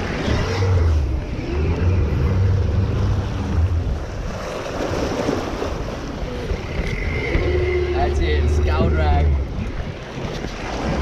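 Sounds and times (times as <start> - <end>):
low rumble: 0.0 - 11.0
water rushing along boat hull: 0.0 - 11.0
wind buffeting microphone: 0.0 - 11.0.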